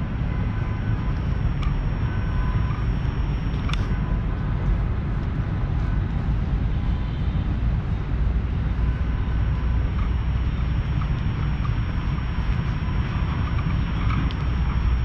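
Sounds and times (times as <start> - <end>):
city ambience low rumble: 0.0 - 15.0.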